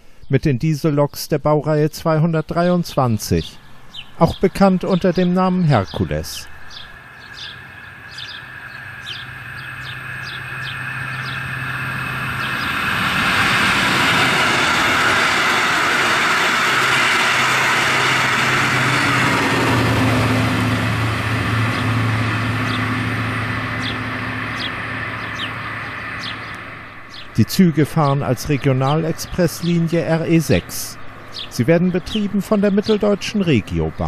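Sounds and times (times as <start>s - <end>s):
birds chirping: 0.0s - 34.0s
diesel locomotive engine drone: 1.7s - 34.0s
train wheels rumbling on rails: 4.1s - 34.0s.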